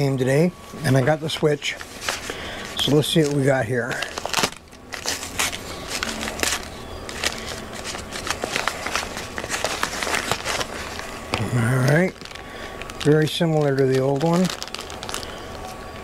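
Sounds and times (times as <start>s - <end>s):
paper envelope ripping and crinkling: 0.9s - 16.0s.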